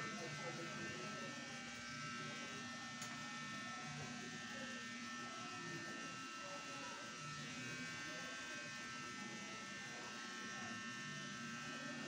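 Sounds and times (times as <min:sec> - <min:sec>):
small motor buzzing: 0:00.0 - 0:12.0.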